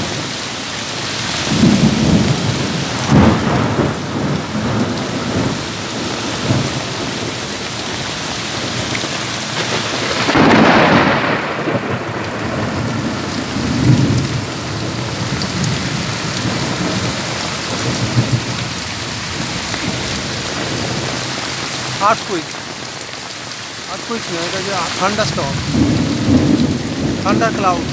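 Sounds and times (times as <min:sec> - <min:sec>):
heavy rain pouring: 0:00.0 - 0:27.9
thunder rumbling: 0:01.4 - 0:27.9.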